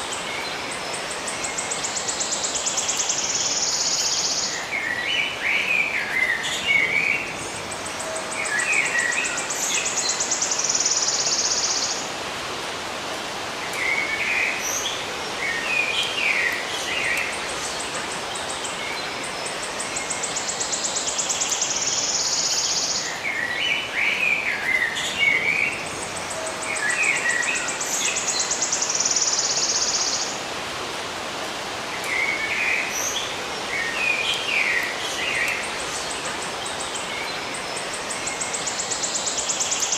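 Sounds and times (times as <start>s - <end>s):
songbirds chirping: 0.0s - 39.9s
steady outdoor hiss: 0.0s - 39.9s.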